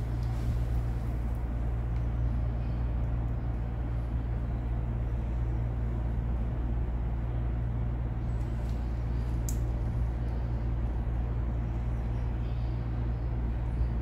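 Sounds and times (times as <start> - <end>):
machine hum and rumble: 0.0 - 14.0.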